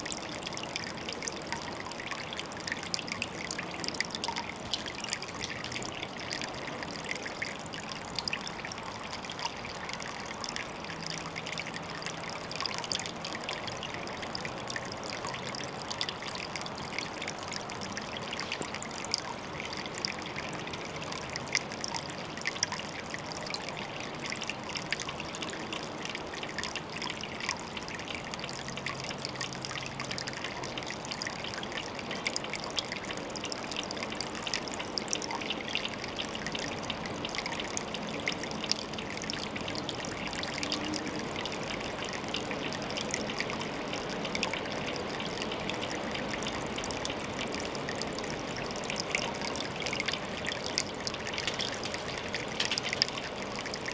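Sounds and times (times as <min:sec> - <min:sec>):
small splashes and drips: 0:00.0 - 0:53.9
water trickling: 0:00.0 - 0:53.9.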